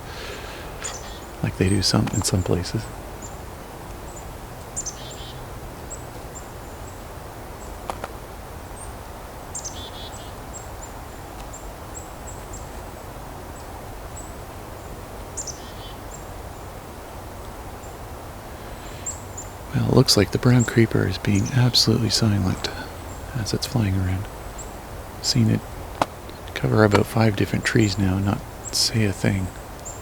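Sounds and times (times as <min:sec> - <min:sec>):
songbirds calling: 0:00.0 - 0:30.0.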